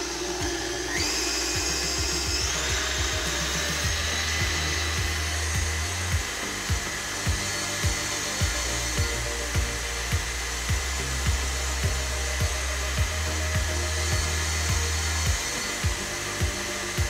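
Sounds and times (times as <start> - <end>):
stand mixer motor whining: 0.0 - 17.0.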